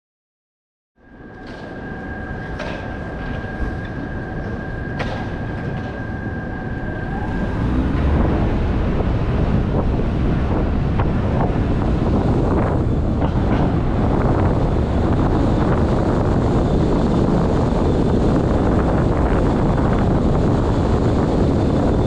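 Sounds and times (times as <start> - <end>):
high whine: 1.0 - 22.0
vehicle rumble and wind noise: 1.0 - 22.0.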